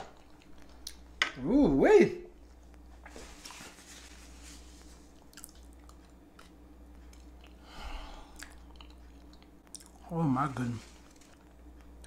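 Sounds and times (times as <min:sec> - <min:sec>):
soft chewing: 0:00.0 - 0:01.2, 0:02.4 - 0:12.0.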